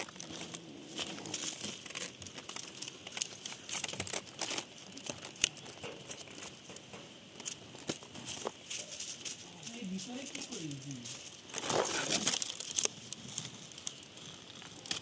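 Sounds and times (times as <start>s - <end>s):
leaves and gravel crackling: 0.0s - 15.0s.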